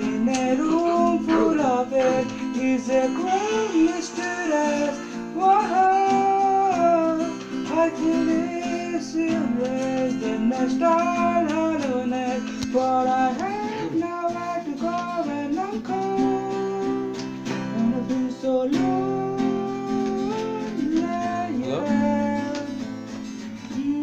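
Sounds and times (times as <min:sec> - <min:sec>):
man singing: 0:00.0 - 0:23.0, 0:23.6 - 0:24.0
acoustic guitar strumming chords: 0:00.0 - 0:24.0.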